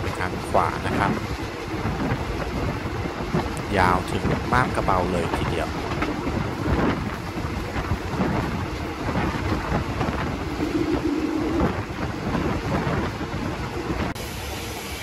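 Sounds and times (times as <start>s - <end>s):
train rumble and rushing: 0.0s - 15.0s.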